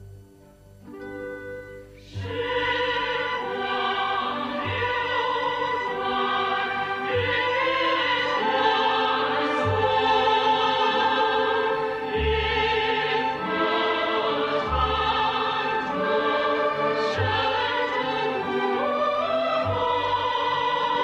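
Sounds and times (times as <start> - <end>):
orchestral song with vocals: 1.9 - 21.0.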